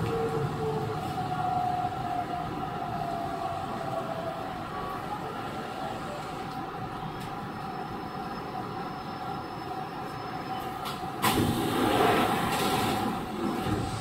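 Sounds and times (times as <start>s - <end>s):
train rolling and gear hum: 0.0s - 14.0s.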